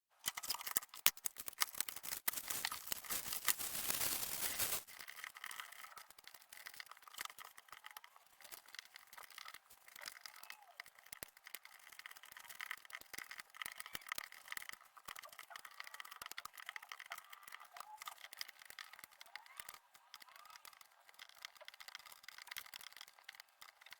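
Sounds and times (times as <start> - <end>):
puzzle pieces clicking and rattling: 0.2 - 23.9.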